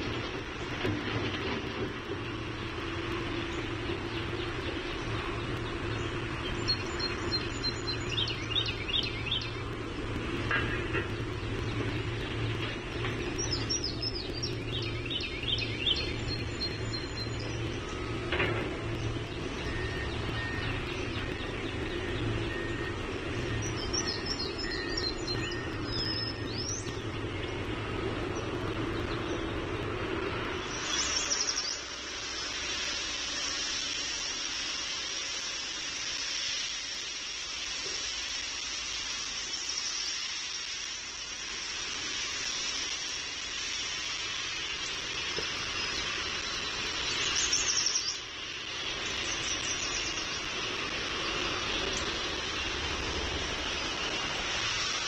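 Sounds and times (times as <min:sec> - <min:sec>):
songbirds chirping: 0:00.0 - 0:54.8
distant traffic rumble: 0:00.0 - 0:55.0
steady high hiss: 0:00.0 - 0:55.0.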